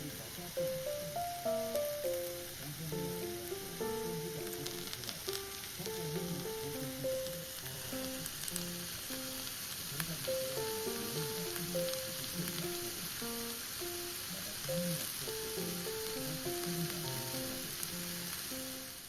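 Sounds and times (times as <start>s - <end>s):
food sizzling on a grill: 0.0s - 19.0s
simple background melody: 0.0s - 19.0s.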